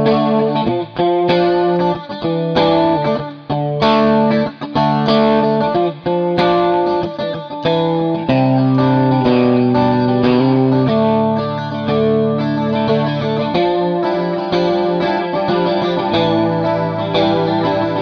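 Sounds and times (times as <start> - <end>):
electric guitar chords with swirling modulation: 0.0 - 18.0.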